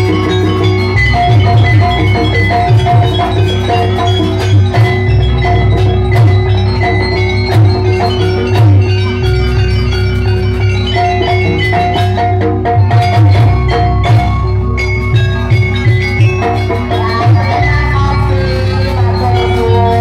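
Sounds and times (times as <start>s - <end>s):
drum strokes: 0.0s - 20.0s
metal-keyed mallet instruments: 0.0s - 20.0s.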